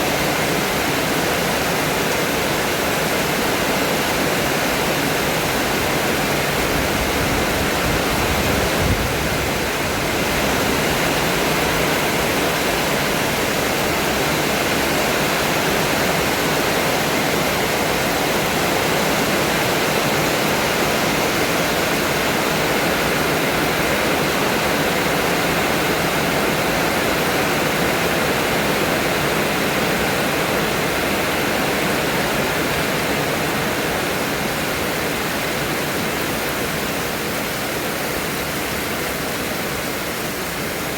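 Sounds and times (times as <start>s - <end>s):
strong wind blowing: 0.0s - 38.0s.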